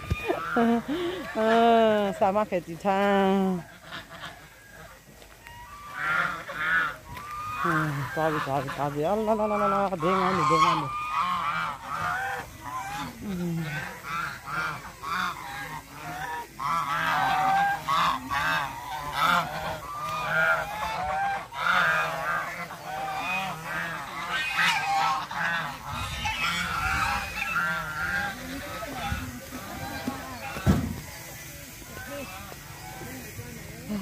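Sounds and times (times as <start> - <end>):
geese honking: 0.0 - 34.0.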